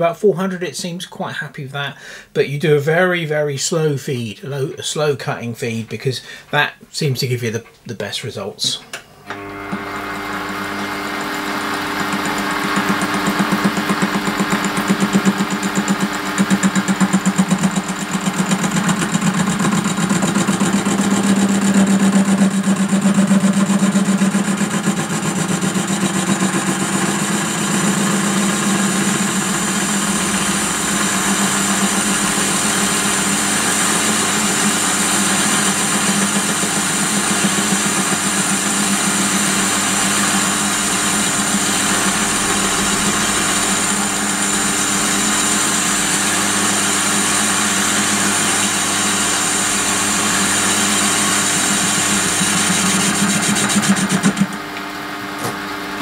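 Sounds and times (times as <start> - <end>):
lathe humming: 9.2 - 56.0.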